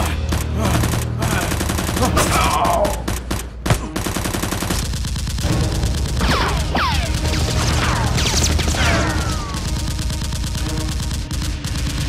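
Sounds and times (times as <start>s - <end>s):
automatic gunfire: 0.3s - 12.0s.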